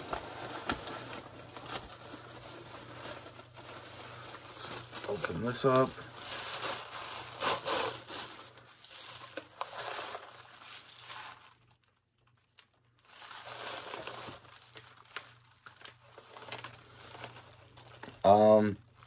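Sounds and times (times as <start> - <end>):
packaging crinkling and tearing: 0.0 - 19.0.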